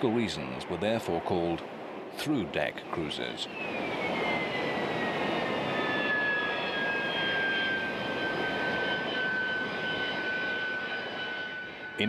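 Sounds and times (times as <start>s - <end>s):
jet engine rush and whine: 0.0s - 12.0s.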